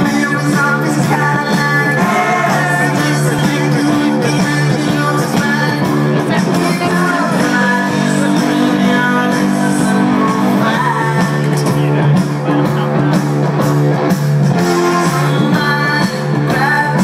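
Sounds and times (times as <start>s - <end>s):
vocals: 0.0s - 13.8s, 14.5s - 17.0s
drums: 0.0s - 17.0s
electric guitars: 0.0s - 17.0s
live rock band: 0.0s - 17.0s.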